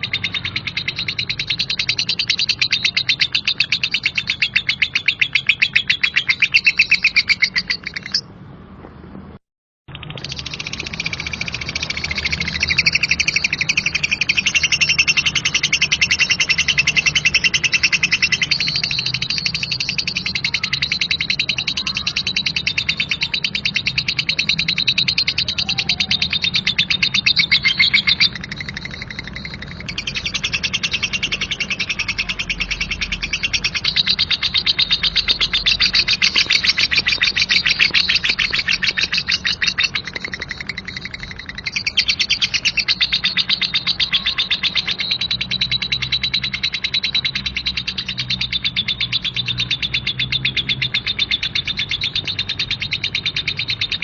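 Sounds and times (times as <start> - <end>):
lovebird chattering trill: 0.0 - 8.3, 9.9 - 54.0.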